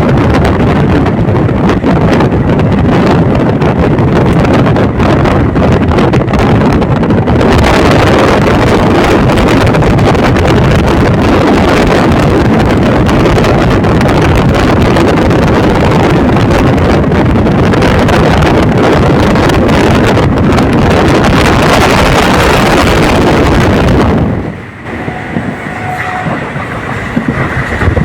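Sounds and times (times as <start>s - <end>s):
moving passenger train: 0.0s - 28.0s
wind buffeting microphone: 0.0s - 28.0s.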